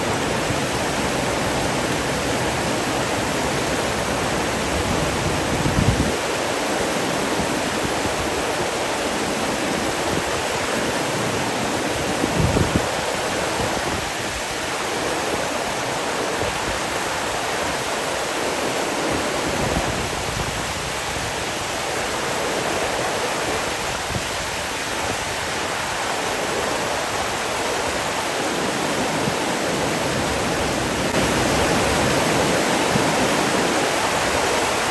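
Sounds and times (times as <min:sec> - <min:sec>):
flowing water rushing: 0:00.0 - 0:34.9.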